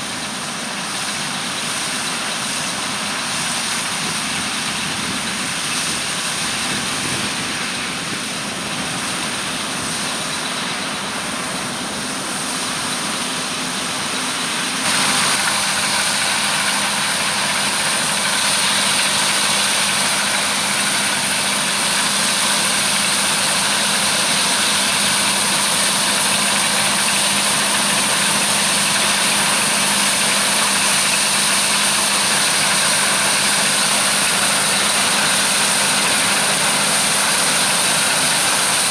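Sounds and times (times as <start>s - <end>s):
diesel farm machinery running: 0.0s - 38.9s.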